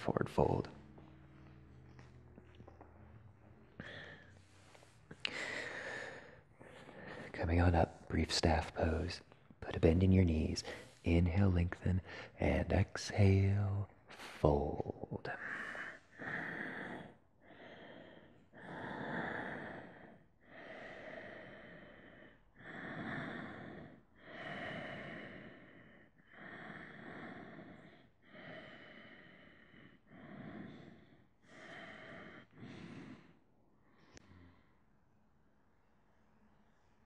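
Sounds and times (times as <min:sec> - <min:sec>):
man breathing slowly: 0:00.0 - 0:08.1, 0:09.2 - 0:12.6, 0:13.5 - 0:37.0.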